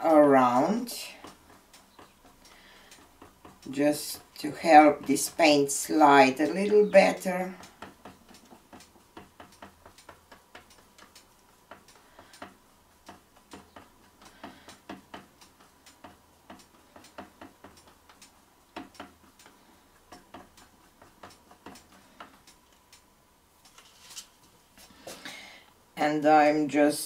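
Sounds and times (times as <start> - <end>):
faint small ticks and clicks: 0.0 - 25.8.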